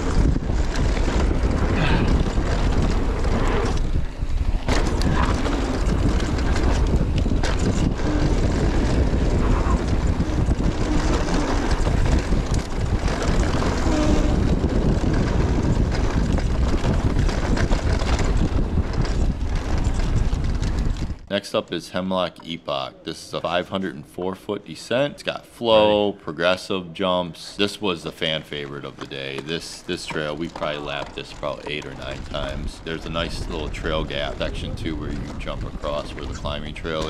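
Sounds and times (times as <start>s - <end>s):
bike clicks and rattles: 0.0s - 21.3s, 28.3s - 37.0s
wind buffeting microphone: 0.0s - 21.3s, 28.5s - 37.0s
bike tyre noise: 0.0s - 21.6s, 27.1s - 37.0s.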